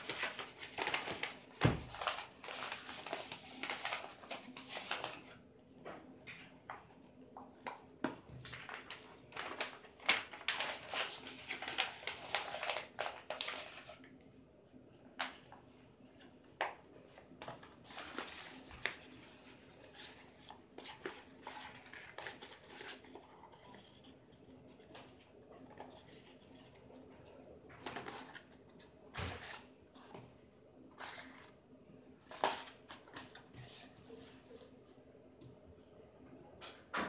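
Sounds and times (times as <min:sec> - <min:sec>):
paper rustling and crinkling: 0:00.0 - 0:05.4, 0:06.0 - 0:14.2, 0:15.1 - 0:31.6, 0:32.2 - 0:34.8.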